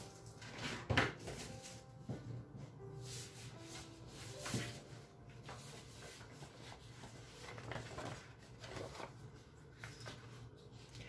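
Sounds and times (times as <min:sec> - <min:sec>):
paper sheets rustling: 0:00.0 - 0:02.0, 0:03.0 - 0:10.9.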